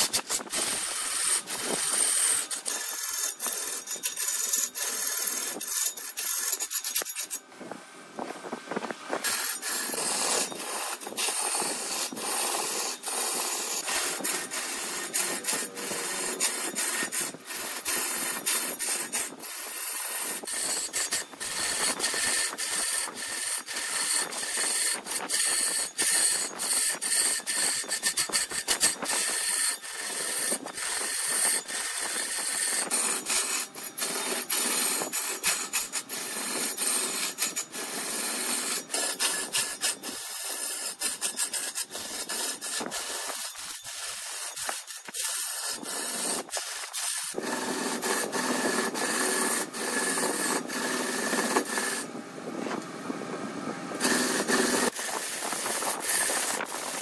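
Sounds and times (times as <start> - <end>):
lathe tool scraping spinning wood: 0.0 - 57.0.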